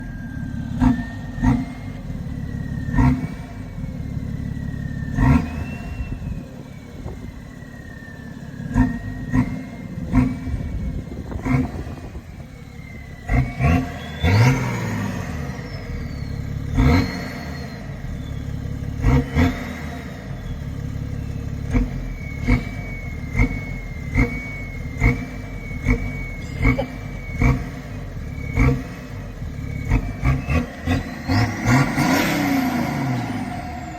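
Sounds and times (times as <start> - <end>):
diesel engine revving in blips: 0.0 - 33.9
turbocharger whistling: 0.0 - 33.9.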